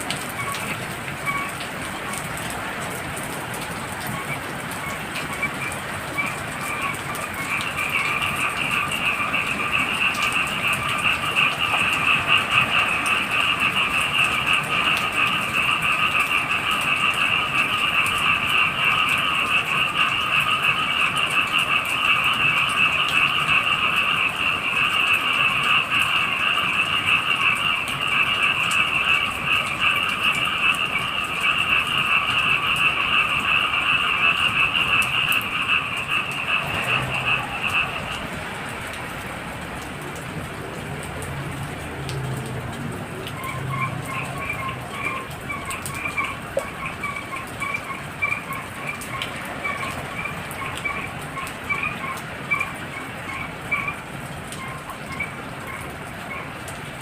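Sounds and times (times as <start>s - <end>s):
frogs trilling chorus: 0.0s - 40.1s, 43.0s - 57.0s
rain falling: 0.0s - 57.0s.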